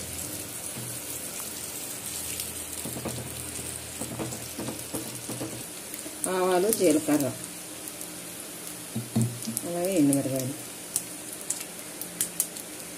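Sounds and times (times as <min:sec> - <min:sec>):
food sizzling in hot oil: 0:00.0 - 0:12.9.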